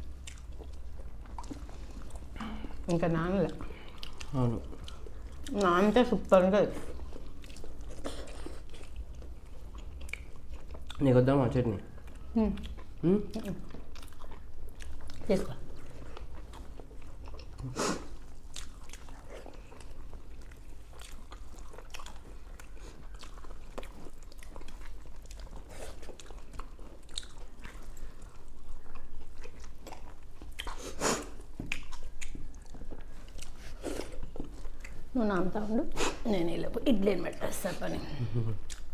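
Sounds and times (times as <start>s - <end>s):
chewing and mouth smacks: 0.0s - 2.6s, 3.4s - 5.8s, 6.8s - 11.1s, 11.9s - 35.1s, 38.6s - 38.9s.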